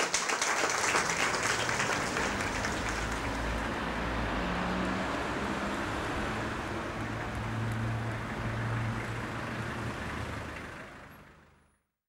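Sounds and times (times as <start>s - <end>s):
cars driving past: 0.6s - 11.8s.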